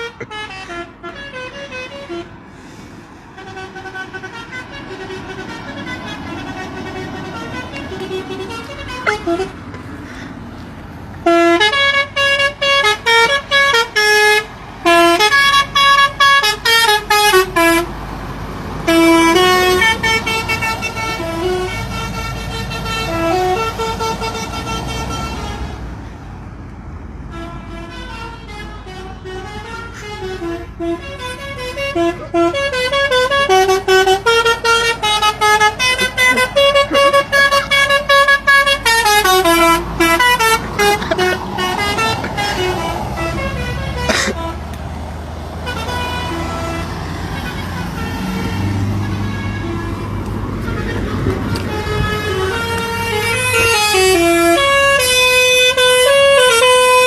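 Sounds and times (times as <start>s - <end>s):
musical truck horn blasts: 0.0s - 2.5s, 3.3s - 9.8s, 11.2s - 18.0s, 18.8s - 25.8s, 27.3s - 44.8s, 45.6s - 57.0s.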